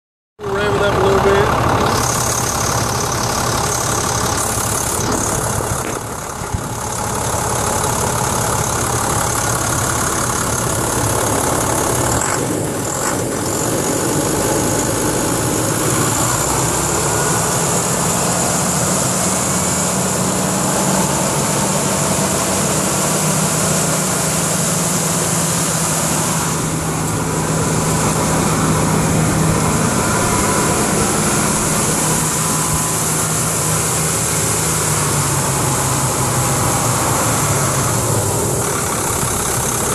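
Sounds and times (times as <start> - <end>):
diesel engine running: 0.4 - 39.9.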